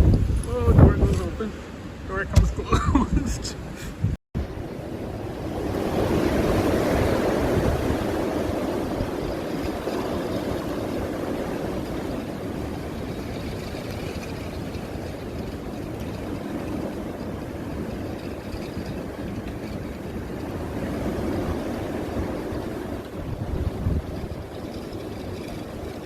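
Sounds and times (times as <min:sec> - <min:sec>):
strong blizzard wind buffeting microphone: 0:00.0 - 0:26.0.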